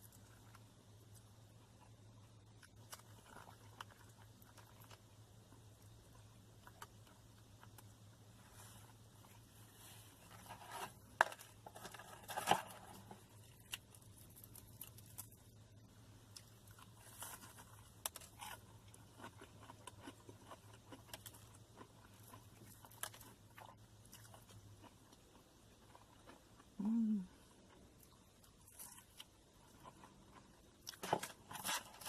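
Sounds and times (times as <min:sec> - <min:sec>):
soft chewing: 0:00.0 - 0:32.0.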